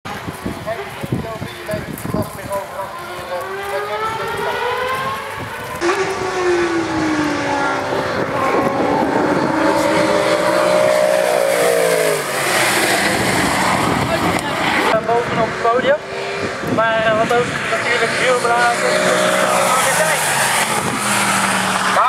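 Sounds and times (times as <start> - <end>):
car engine accelerating: 2.5 - 22.0.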